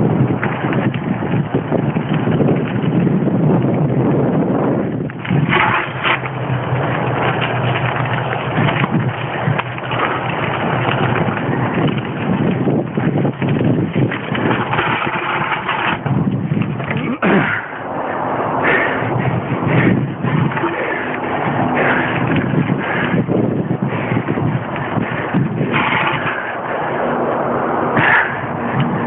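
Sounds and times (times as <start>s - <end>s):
bike rattling over roots: 0.0s - 29.0s
wind noise on microphone: 0.0s - 29.0s.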